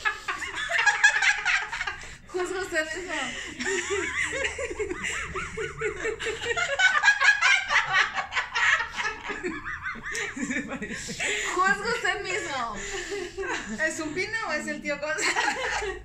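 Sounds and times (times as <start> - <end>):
woman giggling: 0.1 - 14.0.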